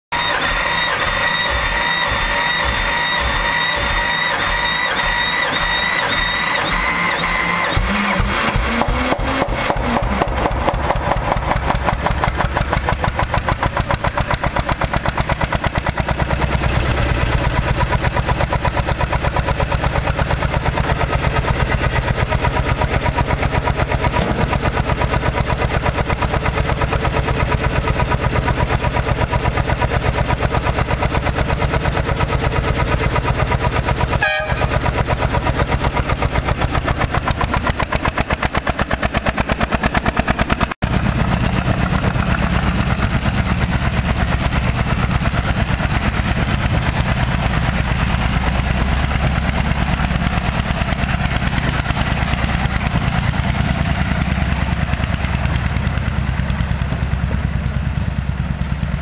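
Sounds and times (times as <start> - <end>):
starter motor cranking: 0.1 - 52.7
diesel engine chugging idle: 0.1 - 59.0.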